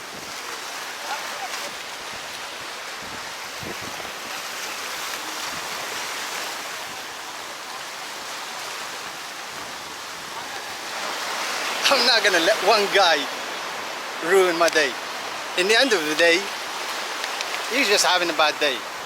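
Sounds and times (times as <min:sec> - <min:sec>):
sea waves washing: 0:00.0 - 0:19.0.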